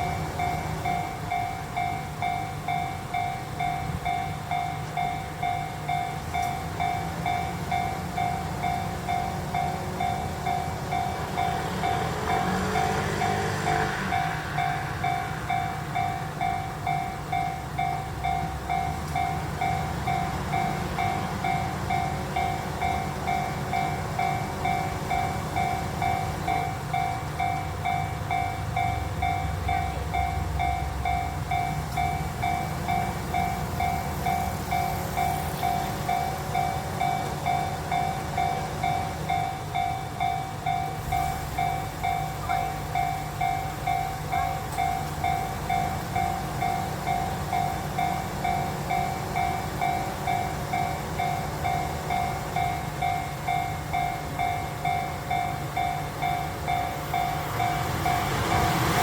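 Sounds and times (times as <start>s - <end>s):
railroad crossing warning bell: 0.0s - 59.0s
train low rumble: 0.0s - 59.0s.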